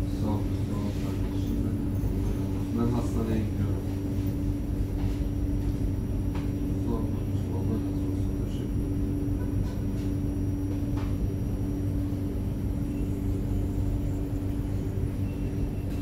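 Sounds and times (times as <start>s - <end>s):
low hum of tram equipment: 0.0s - 16.0s.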